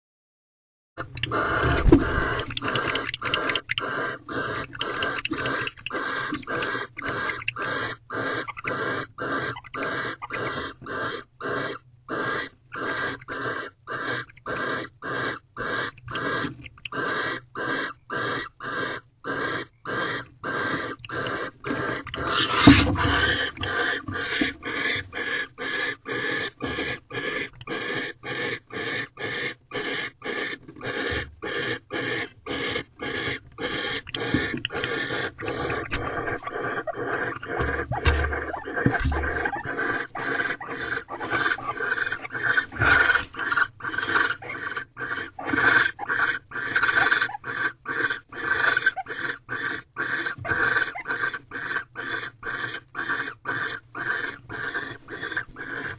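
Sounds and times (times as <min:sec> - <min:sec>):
owl hissing begging calls: 0:01.2 - 0:55.9.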